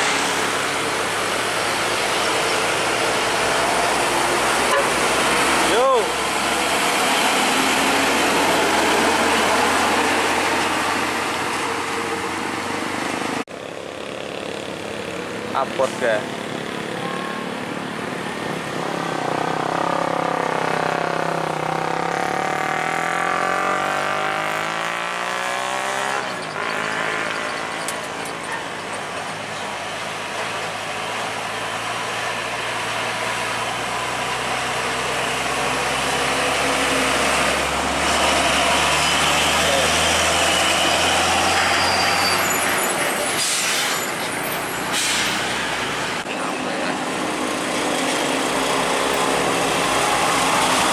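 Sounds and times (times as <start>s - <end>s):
truck diesel engine pulling away: 0.0s - 50.9s
tyre and road noise: 0.0s - 50.9s.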